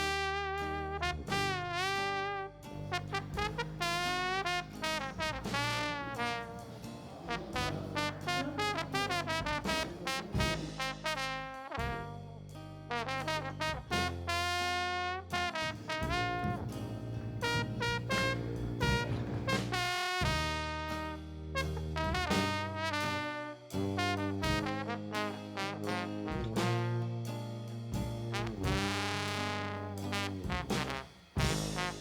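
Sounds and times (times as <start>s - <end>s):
brass horn melody: 0.0s - 32.0s
jazz bass line: 0.0s - 32.0s.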